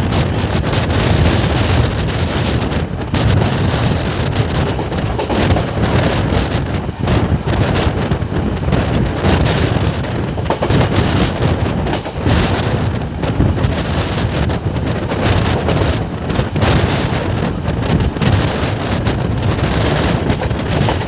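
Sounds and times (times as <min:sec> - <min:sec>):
train rumbling at speed: 0:00.0 - 0:21.0
wind buffeting microphone: 0:00.0 - 0:21.0.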